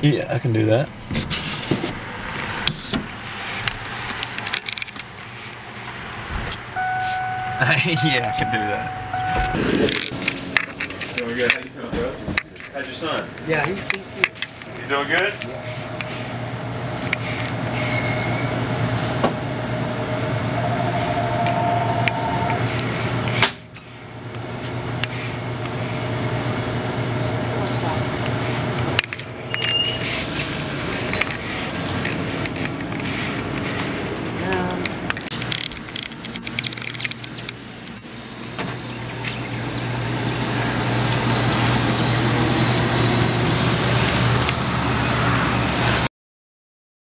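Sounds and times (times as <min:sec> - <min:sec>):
drink cooler hum: 0:00.4 - 0:45.5
truck engine running: 0:01.9 - 0:46.0.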